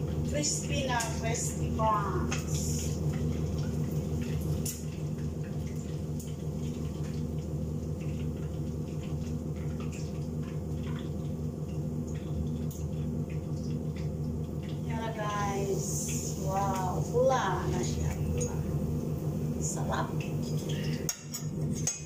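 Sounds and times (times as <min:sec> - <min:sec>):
chicken frying in oil: 0:00.0 - 0:22.0
range hood fan hum: 0:00.0 - 0:22.0.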